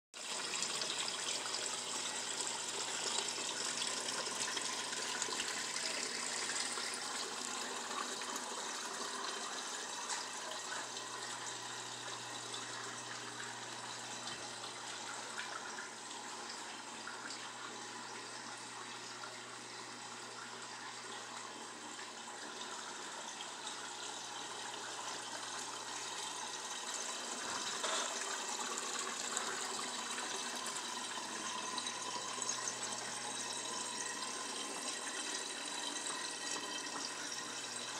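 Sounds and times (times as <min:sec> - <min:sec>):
aquarium filter water trickling: 0:00.2 - 0:37.9.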